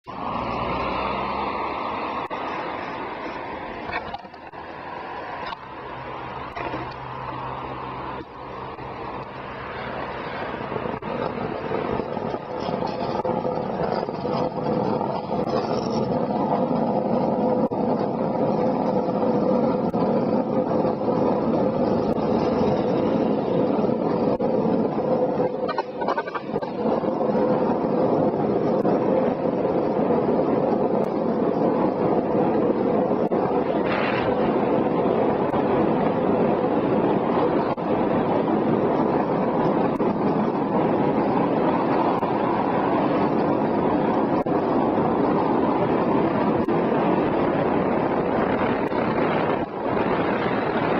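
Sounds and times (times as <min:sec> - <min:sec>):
wheels rolling on asphalt: 0:00.0 - 0:50.9
wind on microphone: 0:00.0 - 0:50.9
constant hum: 0:01.6 - 0:50.9.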